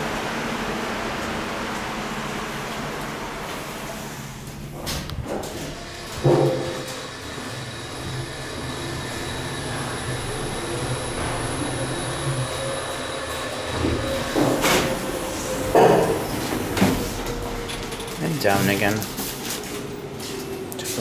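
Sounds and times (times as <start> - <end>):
elevator running hum: 0.0 - 21.0.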